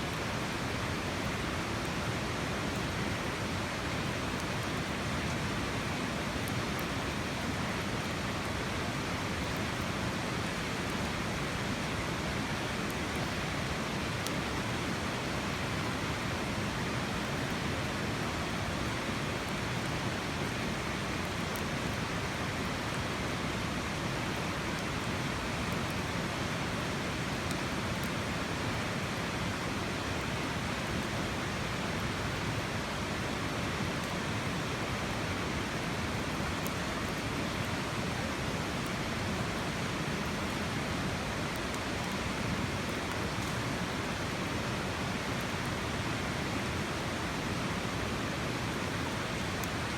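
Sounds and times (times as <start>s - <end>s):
flowing water rushing: 0.0s - 49.9s.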